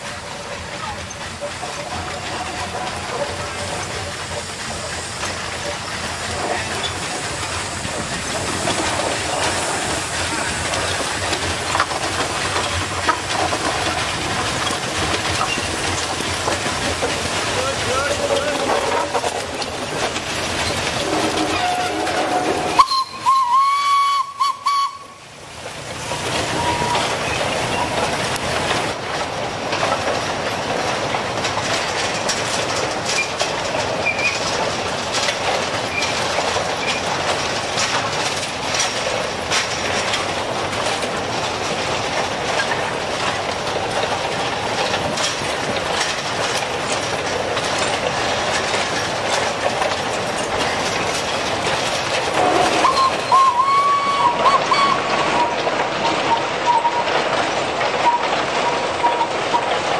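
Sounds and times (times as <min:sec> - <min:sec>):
wagons rolling past: 0:00.0 - 0:59.9
wheels clicking over rail joints: 0:00.0 - 0:59.9.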